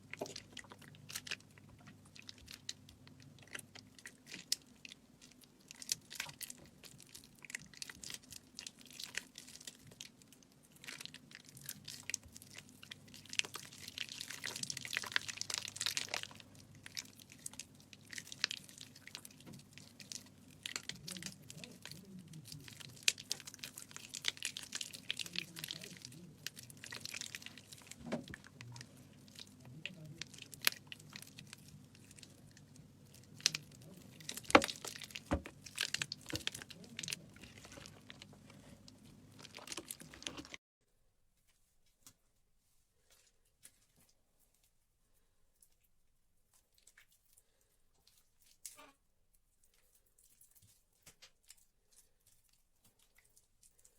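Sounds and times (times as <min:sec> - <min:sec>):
wet soap crackling in hand: 0:00.0 - 0:40.6, 0:45.4 - 0:53.9.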